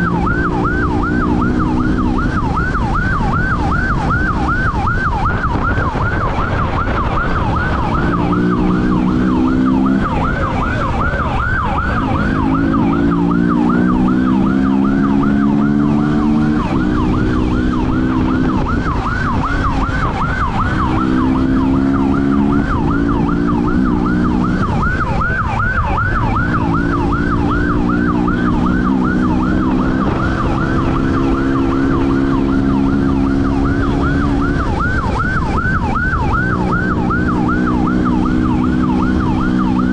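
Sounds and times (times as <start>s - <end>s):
police siren yelping: 0.0s - 39.9s
vehicle engine accelerating: 0.0s - 39.9s.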